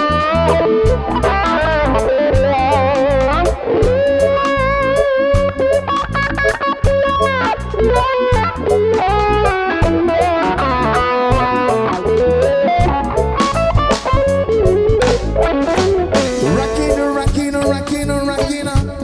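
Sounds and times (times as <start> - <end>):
electric guitar solo: 0.0 - 17.6
reggae bass and drums: 0.0 - 19.0.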